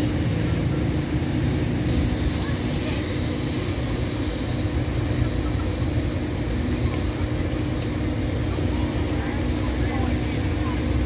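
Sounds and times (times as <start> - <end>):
diesel train idling: 0.0 - 11.0.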